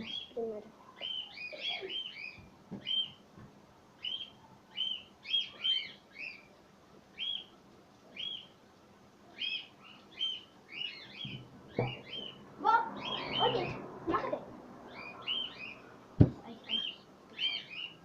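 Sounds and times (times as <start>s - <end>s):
bird chirping: 0.0s - 3.2s, 4.0s - 8.6s, 9.3s - 13.9s, 14.8s - 18.0s.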